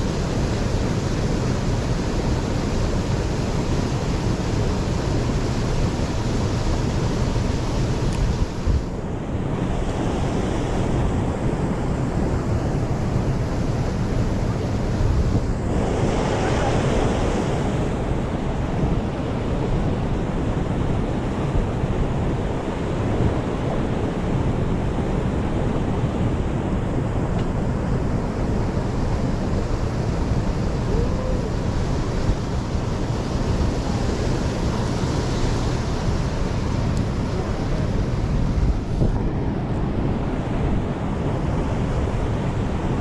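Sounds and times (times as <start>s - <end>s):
mountain stream rushing: 0.0s - 43.0s
wind buffeting microphone: 0.0s - 43.0s.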